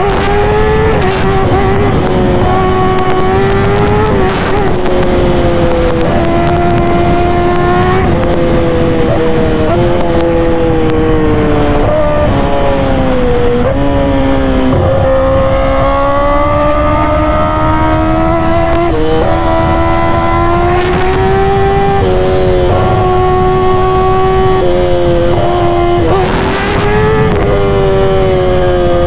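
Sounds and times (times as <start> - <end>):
sportbike engine revving: 0.0 - 29.0.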